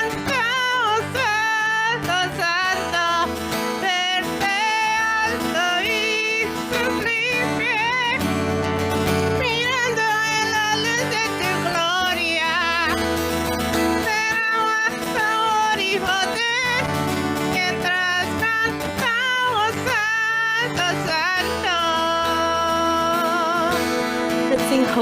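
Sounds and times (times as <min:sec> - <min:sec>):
acoustic guitar: 0:00.0 - 0:25.0.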